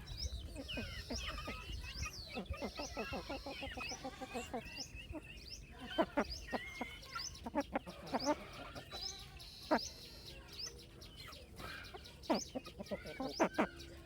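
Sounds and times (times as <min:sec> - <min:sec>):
chickens clucking and chirping: 0:00.0 - 0:14.0.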